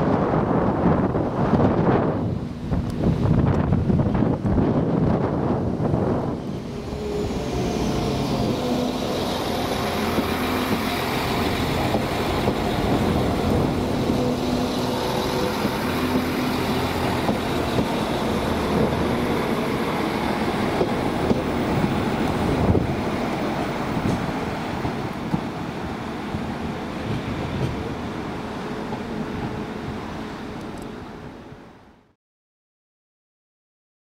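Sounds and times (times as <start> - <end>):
train mechanical hum: 0.1 - 32.0.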